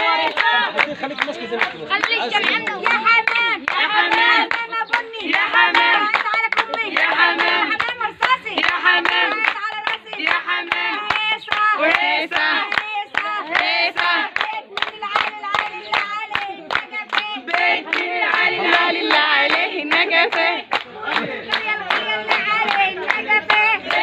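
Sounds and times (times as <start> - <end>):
women singing together: 0.0 - 1.0, 2.0 - 24.0
rhythmic hand clapping: 0.0 - 24.0.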